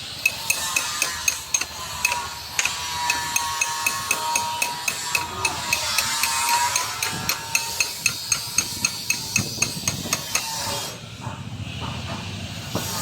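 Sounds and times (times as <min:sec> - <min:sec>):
hammer striking metal: 0:00.0 - 0:10.8.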